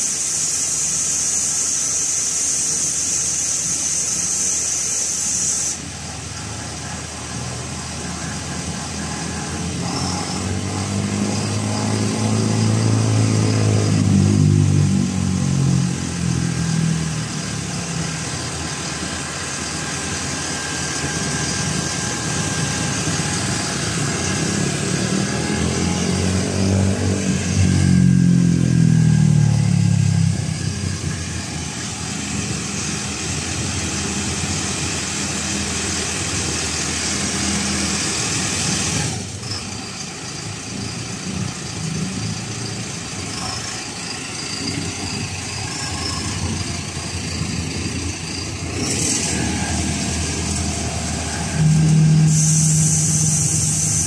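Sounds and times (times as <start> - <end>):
hydraulics working: 0.0 - 54.0
diesel engine revving: 5.7 - 54.0.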